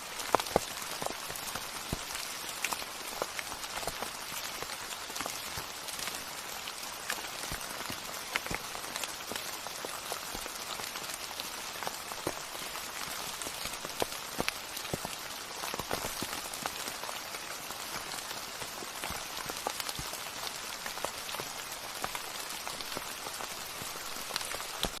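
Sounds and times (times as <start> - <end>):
raindrops tapping close by: 0.0 - 25.0
steady rain hiss: 0.0 - 25.0.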